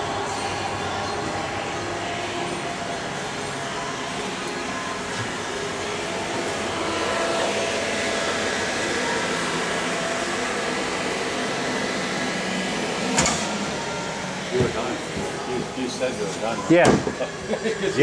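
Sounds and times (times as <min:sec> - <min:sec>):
machinery whirring and humming: 0:00.0 - 0:18.0.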